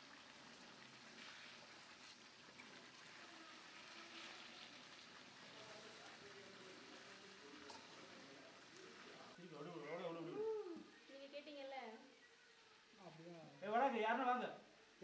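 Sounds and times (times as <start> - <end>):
faint sizzling meat in oil: 0.0 - 15.0.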